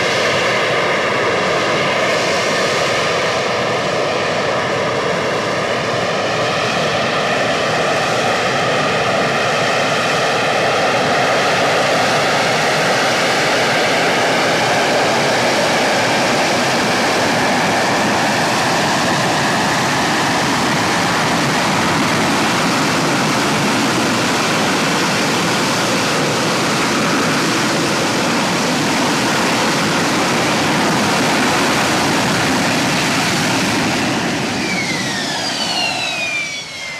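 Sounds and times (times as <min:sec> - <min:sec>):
faint jet whine: 0:00.0 - 0:36.9
loud jet roar: 0:00.0 - 0:36.9.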